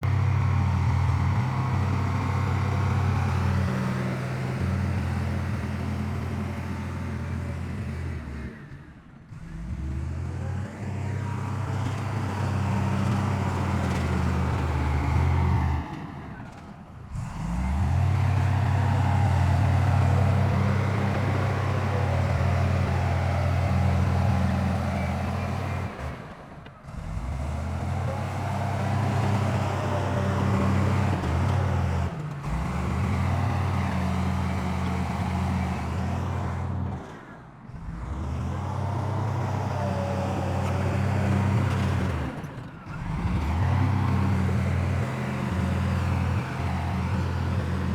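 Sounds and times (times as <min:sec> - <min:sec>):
heavy diesel engine droning: 0:00.0 - 0:47.9.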